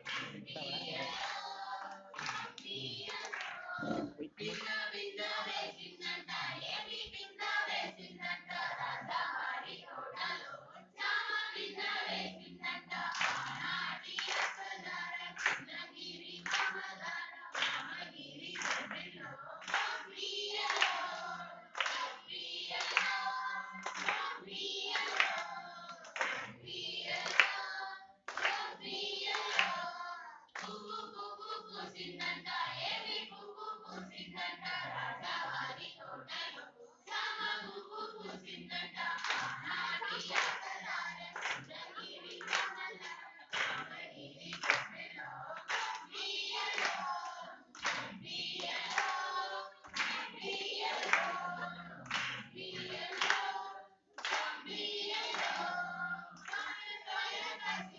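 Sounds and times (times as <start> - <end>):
rhythmic hand clapping: 0.0 - 33.3, 37.1 - 57.9
women singing folk song: 0.0 - 57.9.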